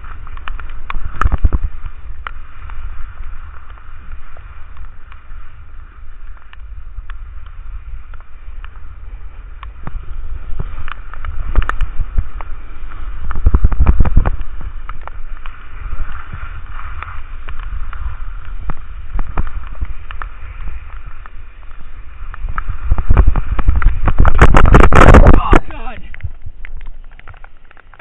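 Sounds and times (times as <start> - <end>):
raindrops ticking on camera: 0.0 - 28.0
skis sliding over wet snow: 0.0 - 28.0
wind buffeting microphone: 0.0 - 28.0.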